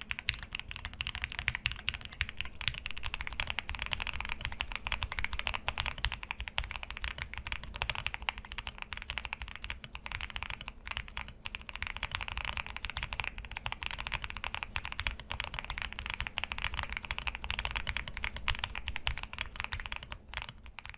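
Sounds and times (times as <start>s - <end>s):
fast mechanical keyboard typing: 0.0s - 20.9s.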